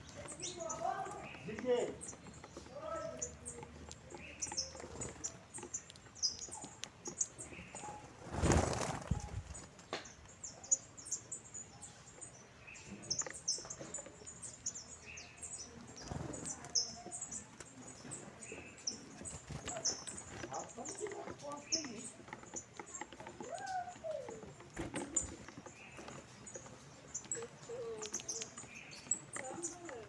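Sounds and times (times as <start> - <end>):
finches chirping: 0.0 - 30.0.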